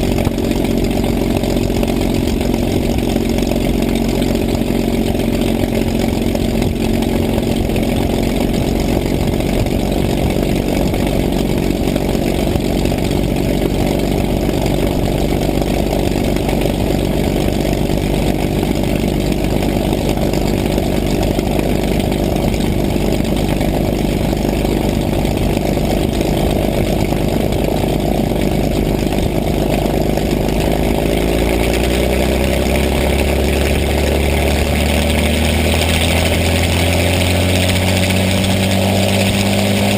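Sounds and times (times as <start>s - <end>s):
piston aircraft engine running: 0.0s - 39.9s.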